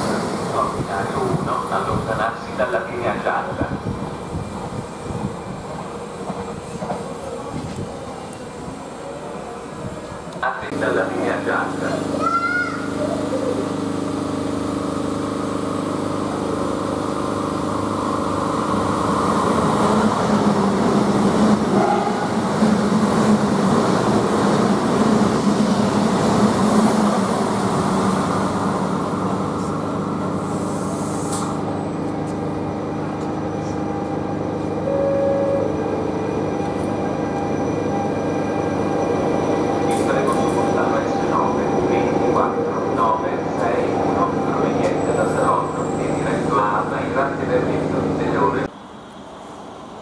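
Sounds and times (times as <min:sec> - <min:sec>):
electric train passing: 0:00.0 - 0:50.0.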